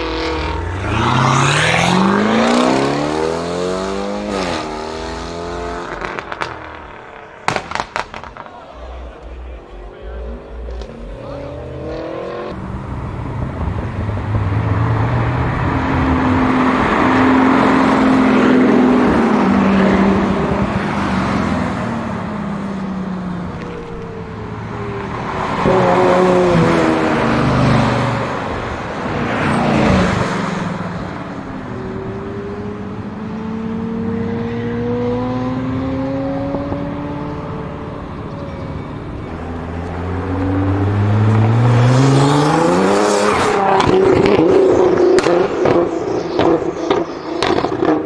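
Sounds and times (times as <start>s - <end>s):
car engine accelerating: 0.0s - 48.0s
car engines driving past: 0.0s - 48.0s.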